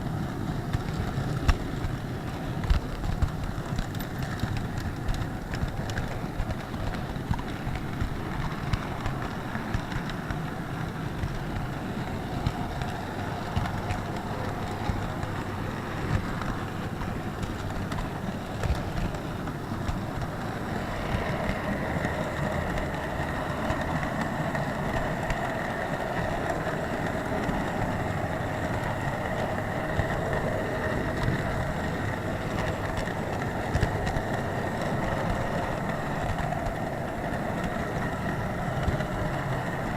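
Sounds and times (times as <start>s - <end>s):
model train rumbling on track: 0.0s - 39.9s.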